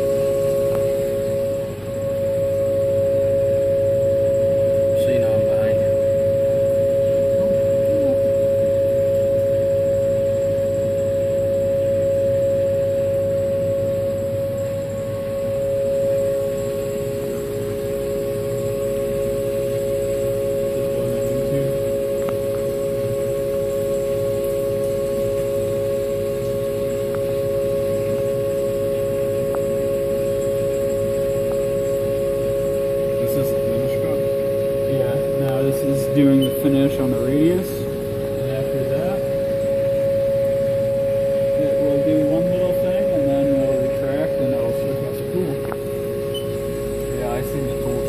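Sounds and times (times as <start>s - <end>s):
milling machine spindle whine: 0.0s - 48.0s.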